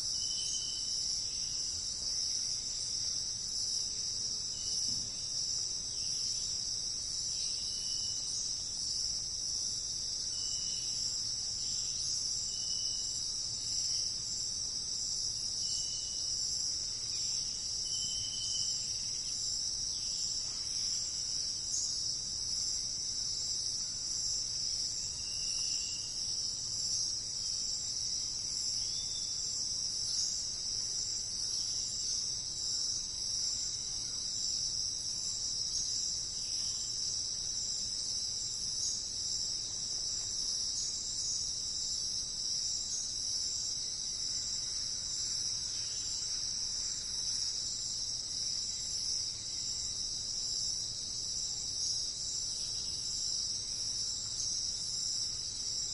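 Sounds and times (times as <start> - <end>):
insect chorus trilling: 0.0 - 55.9.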